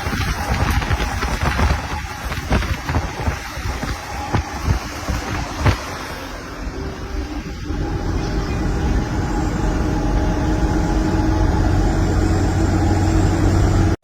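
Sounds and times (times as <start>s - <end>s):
heavy truck engine running: 0.0s - 14.0s.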